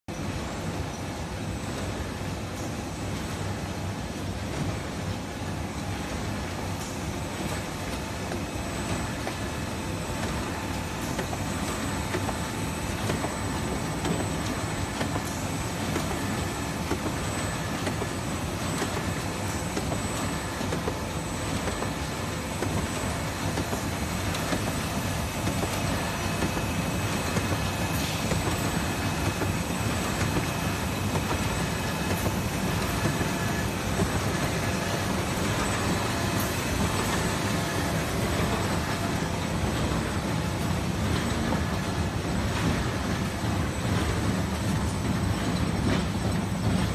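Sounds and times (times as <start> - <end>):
machine running steadily: 0.1 - 46.9.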